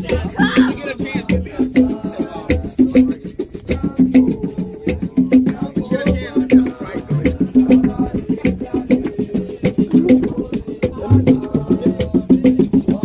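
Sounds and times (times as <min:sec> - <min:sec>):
music with fast percussion beat: 0:00.0 - 0:13.0.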